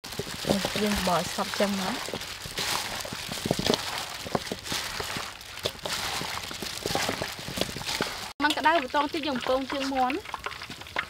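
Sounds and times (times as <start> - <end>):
wet squishing by hand: 0.0 - 11.0.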